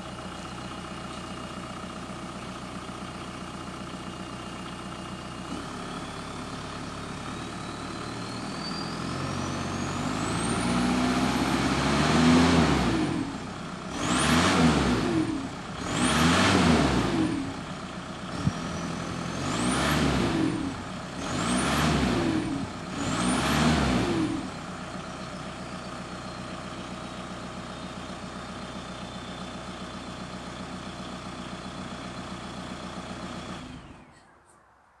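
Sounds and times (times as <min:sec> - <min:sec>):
diesel engine revving and idling: 0:00.0 - 0:34.3.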